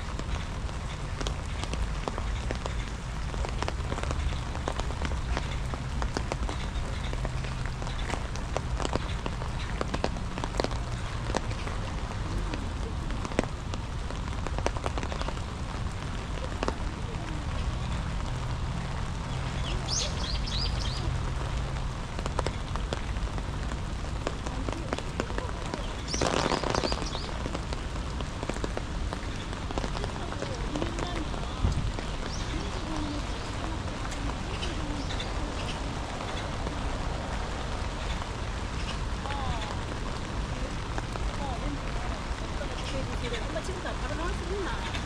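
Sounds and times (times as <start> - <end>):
rain falling: 0.0 - 45.0
raindrops pattering: 0.0 - 45.0.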